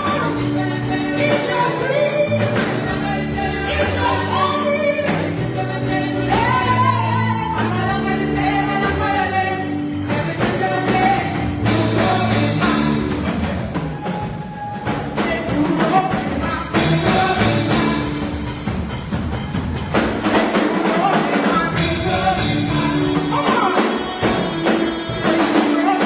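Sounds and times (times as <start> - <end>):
bass guitar: 0.0 - 14.2, 14.8 - 26.0
gospel choir singing: 0.0 - 26.0
steady drum beat: 0.0 - 26.0.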